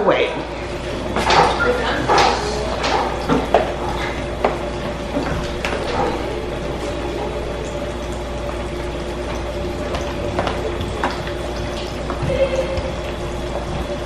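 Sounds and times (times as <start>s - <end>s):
kitchen hum: 0.0s - 14.0s.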